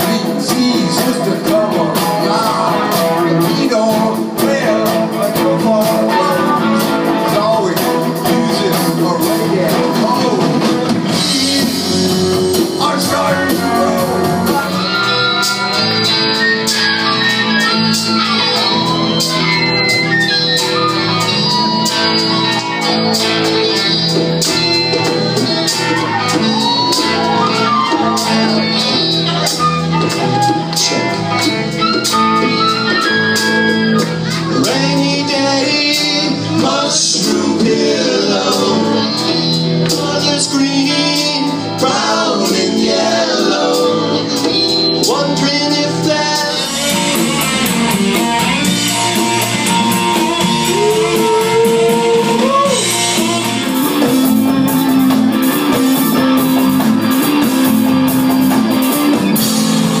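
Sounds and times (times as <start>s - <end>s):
person singing: 0.0s - 57.8s
guitar: 0.0s - 60.0s
live rock band playing: 0.0s - 60.0s.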